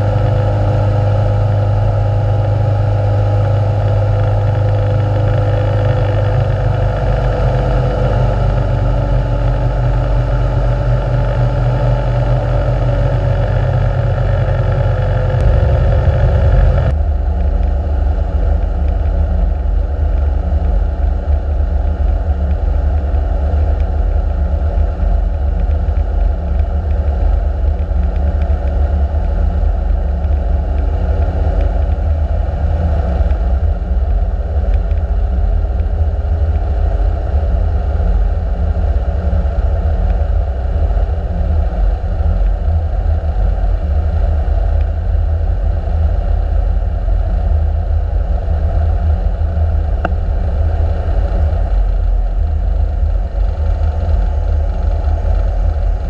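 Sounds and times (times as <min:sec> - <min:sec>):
aircraft engine and propeller: 0:00.0 - 0:56.0
wind noise in cabin: 0:00.0 - 0:56.0.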